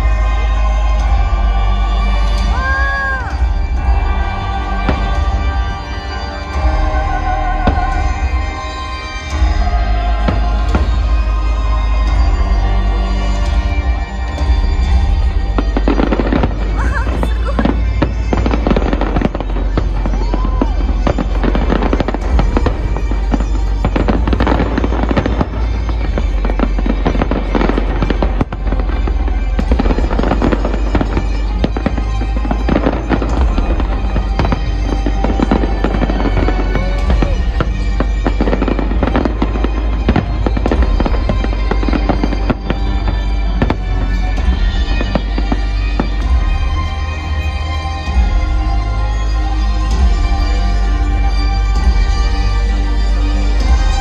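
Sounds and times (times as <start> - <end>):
fireworks bangs and crackles: 0.0 - 54.0
music playing: 0.0 - 54.0.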